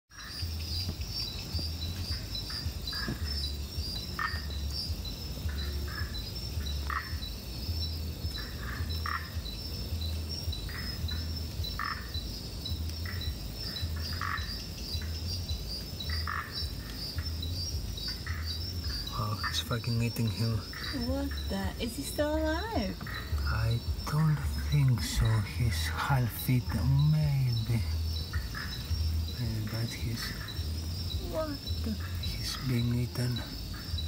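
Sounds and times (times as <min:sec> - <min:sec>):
frog calls: 0:00.1 - 0:34.0
high insect chirping: 0:00.1 - 0:34.0.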